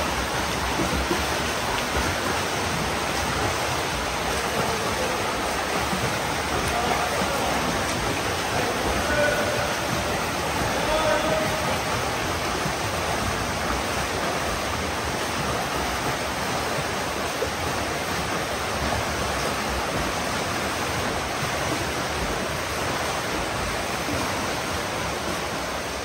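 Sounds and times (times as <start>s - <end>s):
swimmers splashing in pool: 0.0s - 26.0s.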